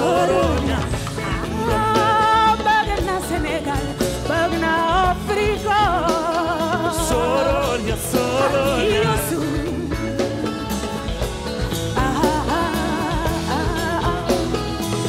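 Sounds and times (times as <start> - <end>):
woman singing with vibrato: 0.0 - 10.7, 11.9 - 15.0
live band playing: 0.0 - 15.0.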